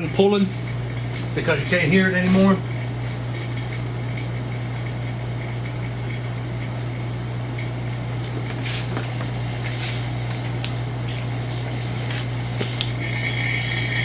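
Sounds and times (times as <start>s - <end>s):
vacuum pump humming: 0.0s - 14.0s.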